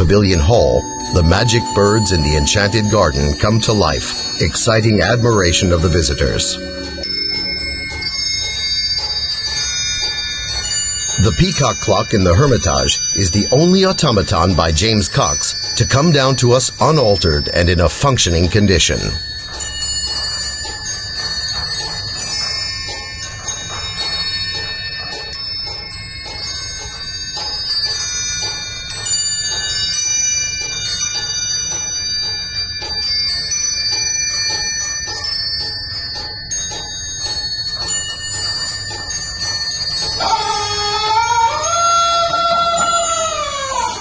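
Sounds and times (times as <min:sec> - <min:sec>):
small bells chiming: 0:00.0 - 0:44.0.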